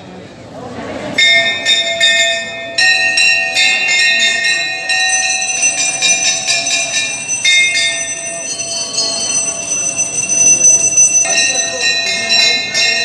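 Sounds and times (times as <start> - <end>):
loud bell ringing: 1.2 - 13.0
temple bells ringing: 1.2 - 13.0.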